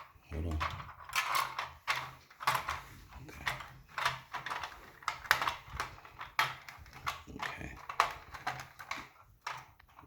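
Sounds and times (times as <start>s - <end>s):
plastic parts clicking and knocking: 0.0s - 10.0s.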